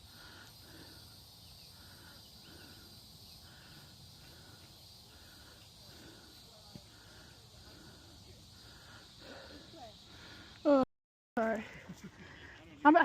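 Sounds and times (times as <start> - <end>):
high insect drone: 0.0 - 10.8.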